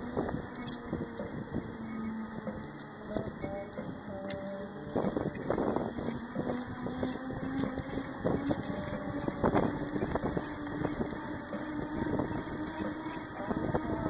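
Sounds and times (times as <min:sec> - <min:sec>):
rolling hum of bicycle: 0:00.0 - 0:14.0
wind rushing over microphone: 0:00.0 - 0:14.0.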